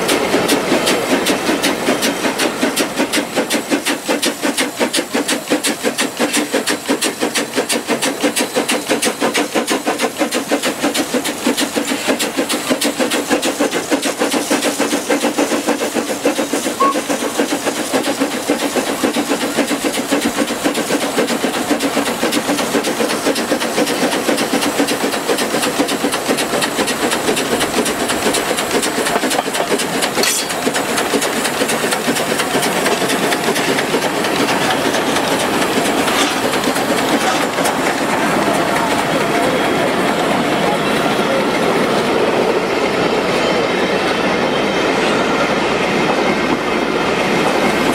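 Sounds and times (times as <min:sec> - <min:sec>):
steam hissing: 0:00.0 - 0:47.9
steam locomotive chuffing: 0:00.0 - 0:47.9.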